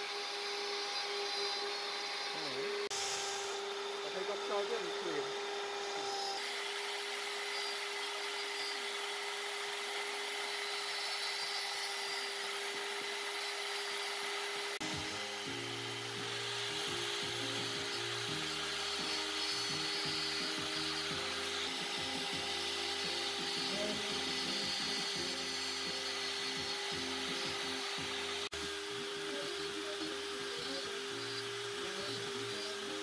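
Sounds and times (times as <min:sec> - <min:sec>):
rotary tool grinding wood: 0:00.0 - 0:33.0
rotary tool motor whine: 0:00.0 - 0:33.0.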